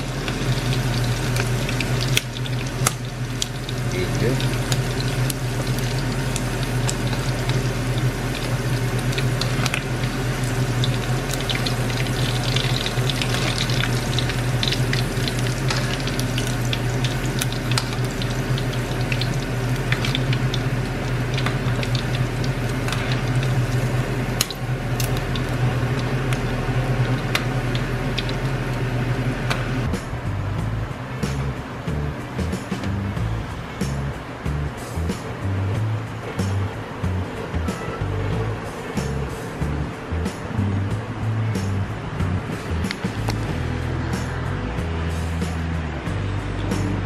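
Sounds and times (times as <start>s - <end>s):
deep-frying sizzle with pops: 0.0s - 43.7s
steady low hum: 0.0s - 47.0s.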